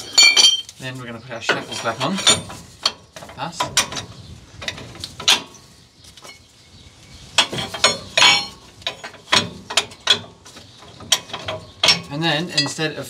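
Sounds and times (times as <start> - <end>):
metal parts clanking: 0.0 - 5.6, 7.4 - 13.0.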